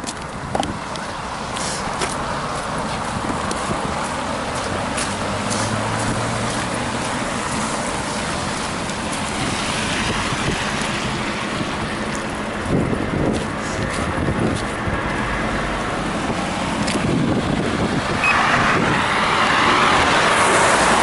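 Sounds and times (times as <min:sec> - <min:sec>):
passing traffic: 0:00.0 - 0:21.0
wind and road noise: 0:00.0 - 0:21.0.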